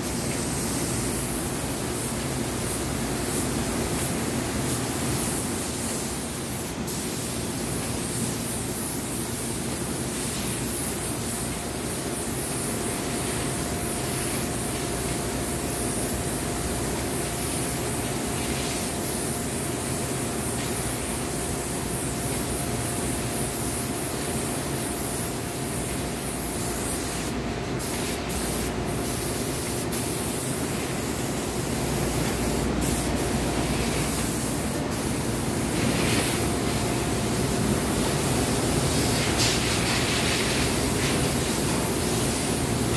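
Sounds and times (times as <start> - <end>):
spray gun hissing: 0.0 - 42.9.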